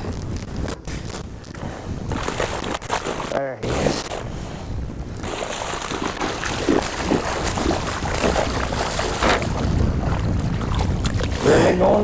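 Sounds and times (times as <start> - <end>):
water noise around boat: 0.0 - 12.0
wind: 0.0 - 12.0.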